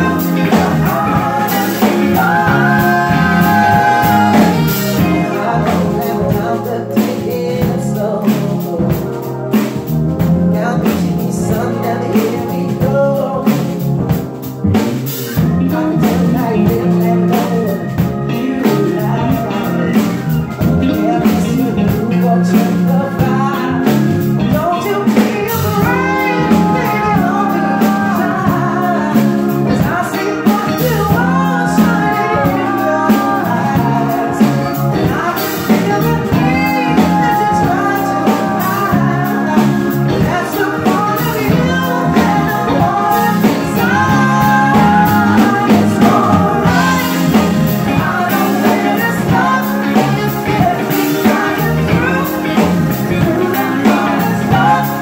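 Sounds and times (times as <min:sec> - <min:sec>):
woman singing into microphone: 0:00.0 - 0:09.3, 0:15.6 - 0:55.0
bass guitar: 0:00.0 - 0:55.0
drums: 0:00.0 - 0:55.0.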